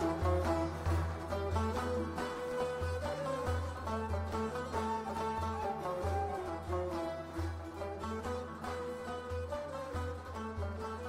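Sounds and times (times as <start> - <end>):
plucked-string melody: 0.0 - 11.0.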